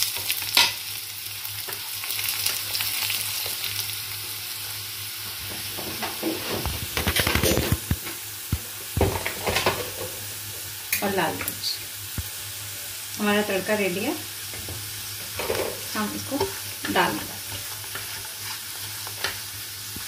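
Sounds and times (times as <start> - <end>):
spices sizzling in hot fat: 0.0 - 20.0.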